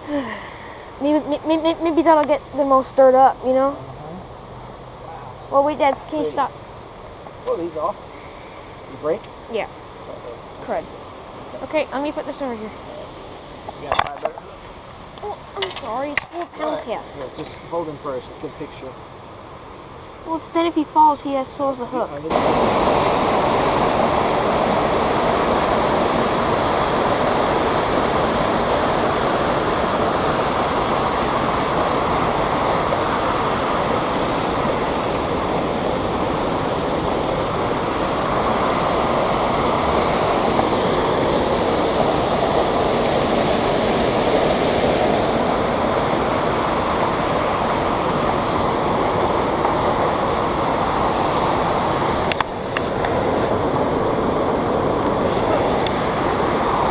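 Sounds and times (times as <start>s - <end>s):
creek water rushing over rocks: 0.0s - 56.9s.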